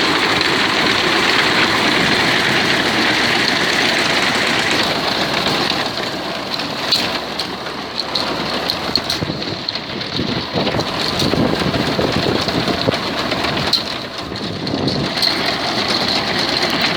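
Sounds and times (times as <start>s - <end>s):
binder mechanical clatter: 0.0s - 16.9s
tractor engine running: 0.0s - 16.9s.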